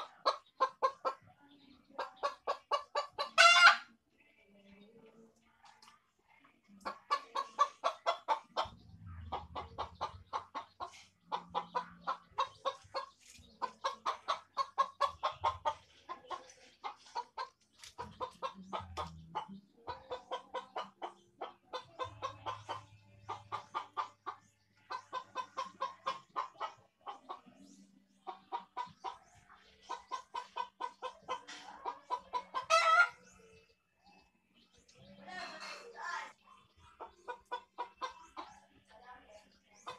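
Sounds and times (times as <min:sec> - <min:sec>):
bird clucking: 0:00.0 - 0:04.0, 0:05.6 - 0:39.9.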